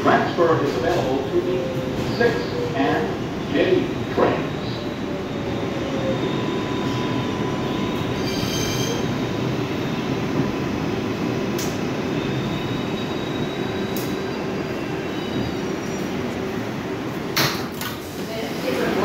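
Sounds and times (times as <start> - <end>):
subway wheels rumbling: 0.0 - 19.0.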